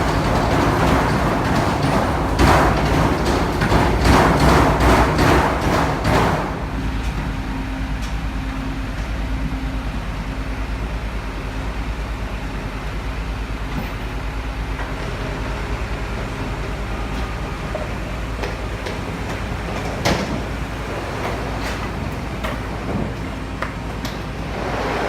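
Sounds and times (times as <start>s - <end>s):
machine low rumble: 0.0s - 25.0s.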